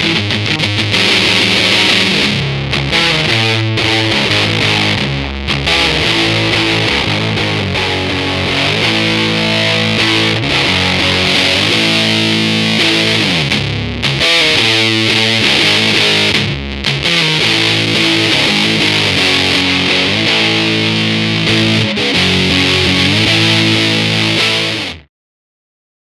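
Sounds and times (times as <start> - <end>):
distorted electric guitar: 0.0 - 25.1.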